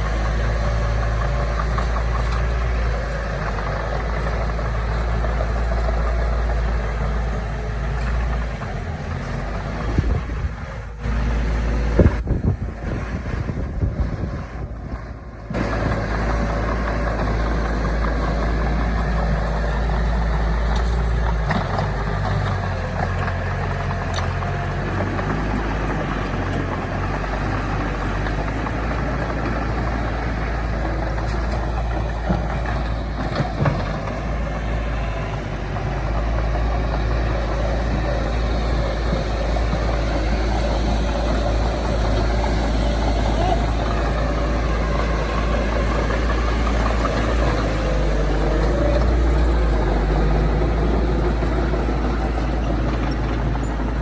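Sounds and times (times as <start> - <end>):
diesel machinery engine rumbling: 0.0 - 54.0.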